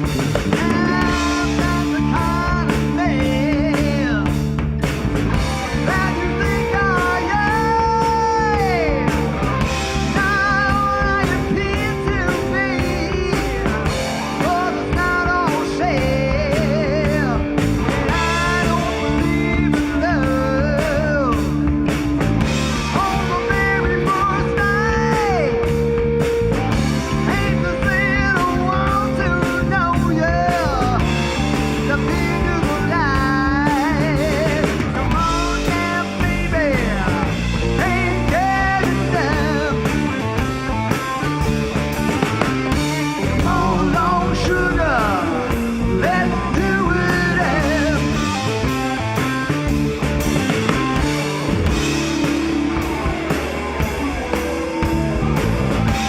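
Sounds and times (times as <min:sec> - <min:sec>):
lead guitar bent notes: 0:00.0 - 0:56.0
rock band playing live: 0:00.0 - 0:56.0.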